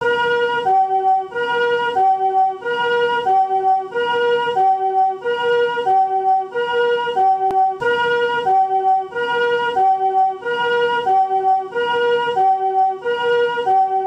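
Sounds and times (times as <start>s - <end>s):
ambulance two-tone siren: 0.0s - 14.0s.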